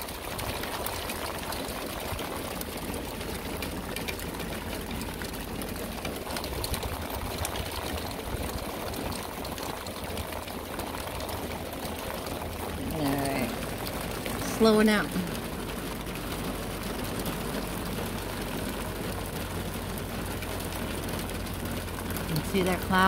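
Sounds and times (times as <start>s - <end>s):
hail and rain falling hard: 0.0s - 23.0s.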